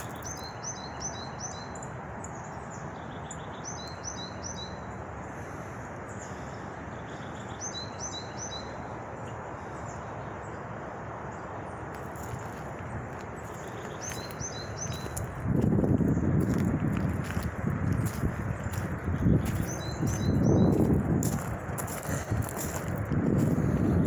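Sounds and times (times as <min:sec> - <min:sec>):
steady outdoor rush: 0:00.0 - 0:24.0.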